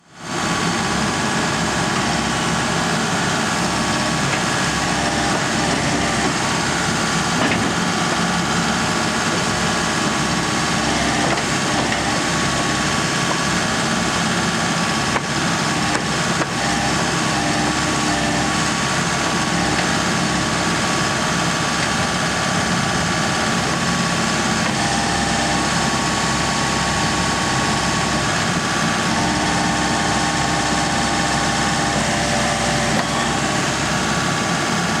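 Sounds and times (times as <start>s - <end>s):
backhoe diesel engine running: 0.0s - 35.0s.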